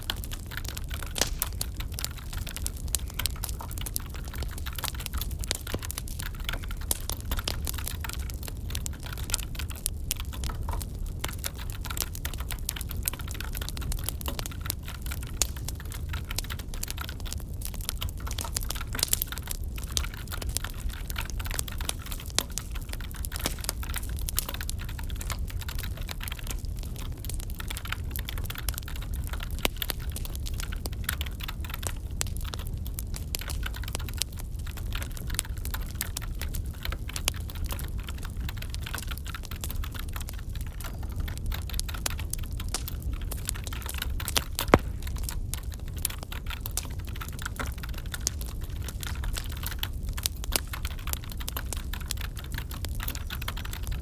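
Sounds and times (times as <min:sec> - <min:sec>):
fire low rumble: 0:00.0 - 0:54.0
wood fire crackling: 0:00.0 - 0:54.0.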